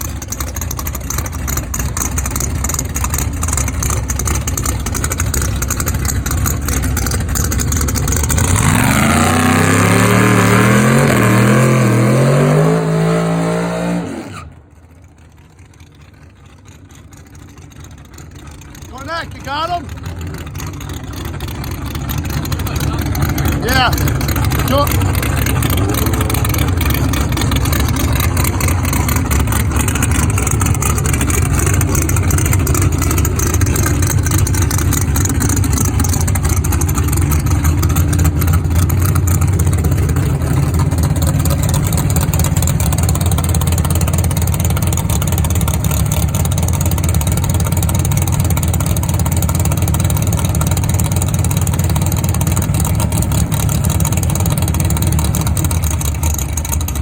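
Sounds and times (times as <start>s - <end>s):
large engine rumbling: 0.0s - 57.0s.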